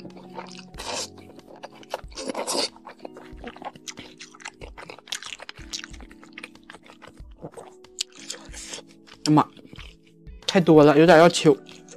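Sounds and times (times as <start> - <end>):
noodles being slurped: 0.0 - 10.0
wet chewing: 0.0 - 10.6, 11.4 - 11.9
soft background music: 0.0 - 11.9.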